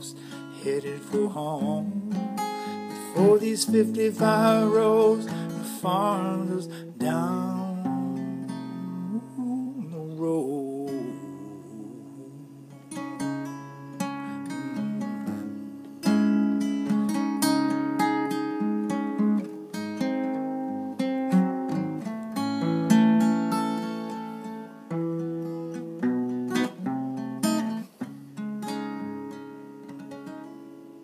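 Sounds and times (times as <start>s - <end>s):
acoustic guitar picking and chords: 0.0s - 31.0s.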